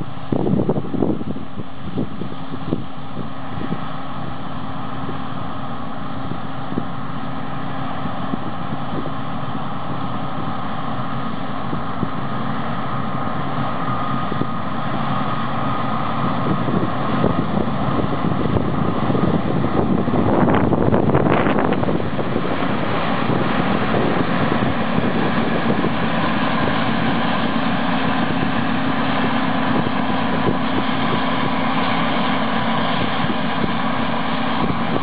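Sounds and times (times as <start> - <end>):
combine harvester engine drone: 0.0 - 35.0
wind buffeting microphone: 0.0 - 35.0.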